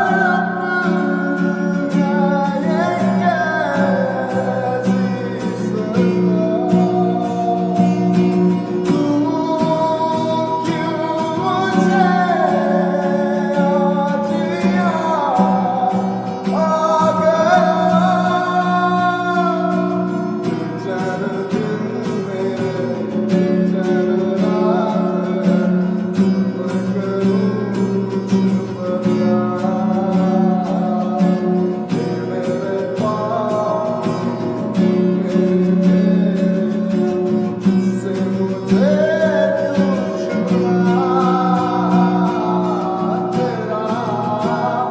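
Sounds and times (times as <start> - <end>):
song with singing and instruments: 0.0 - 44.9.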